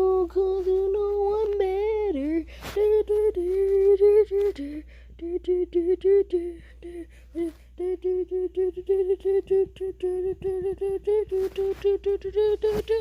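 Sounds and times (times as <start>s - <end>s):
child singing monotone rap: 0.0s - 13.0s.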